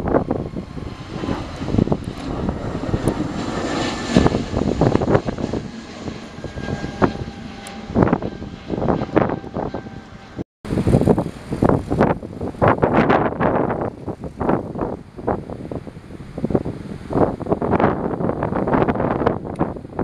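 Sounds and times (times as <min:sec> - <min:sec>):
airplane engine flying past: 0:00.0 - 0:20.0
wind buffeting microphone: 0:00.0 - 0:20.0.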